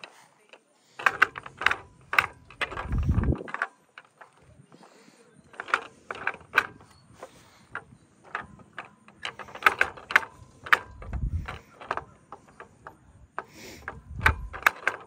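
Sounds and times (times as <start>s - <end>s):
plastic piano keys clicking: 0.0s - 15.0s.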